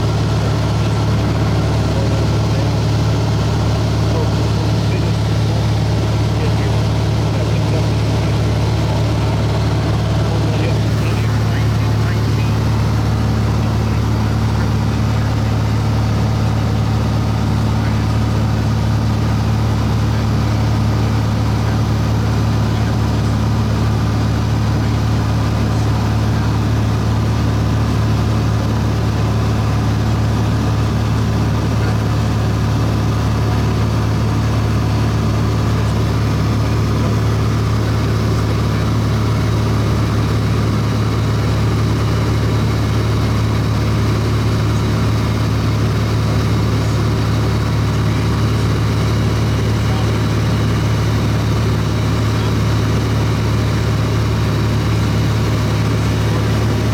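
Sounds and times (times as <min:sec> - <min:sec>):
light aircraft engine drone: 0:00.0 - 0:56.9.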